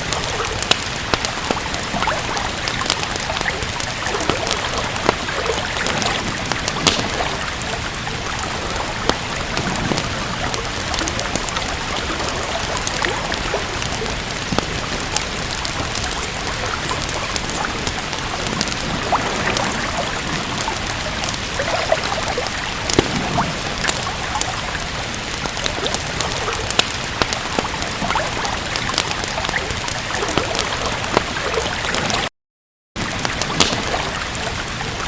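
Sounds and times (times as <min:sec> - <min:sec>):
rain hiss: 0:00.0 - 0:32.3, 0:33.0 - 0:35.0
wood fire crackling: 0:00.0 - 0:32.3, 0:33.0 - 0:35.0.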